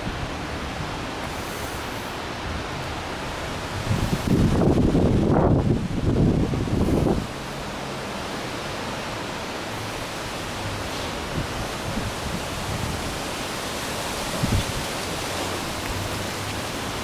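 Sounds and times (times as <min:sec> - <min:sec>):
wind gusts bumping microphone: 0:00.0 - 0:17.0
wind rushing through trees: 0:00.0 - 0:17.0.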